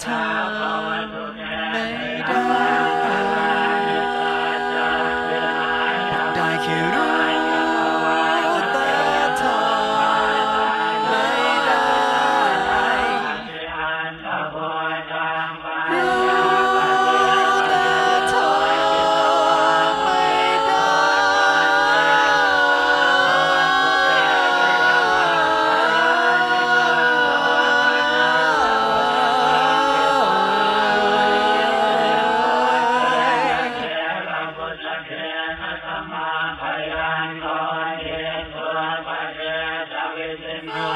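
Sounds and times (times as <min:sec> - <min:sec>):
a cappella voices singing in harmony: 0:00.0 - 0:40.9.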